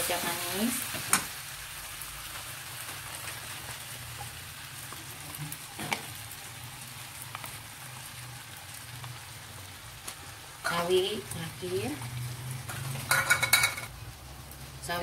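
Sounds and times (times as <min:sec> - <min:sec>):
noodles sizzling in pan: 0:00.0 - 0:15.0.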